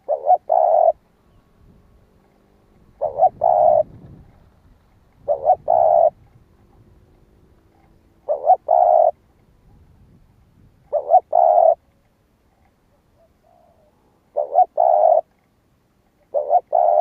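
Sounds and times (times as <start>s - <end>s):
dove cooing: 0.0s - 4.5s, 5.1s - 9.9s, 10.8s - 11.9s, 12.9s - 15.4s, 16.2s - 17.0s.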